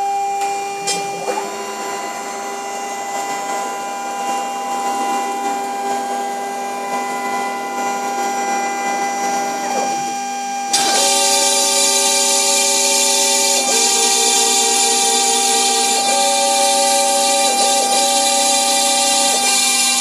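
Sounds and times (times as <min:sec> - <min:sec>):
router motors whining: 0:00.0 - 0:20.0.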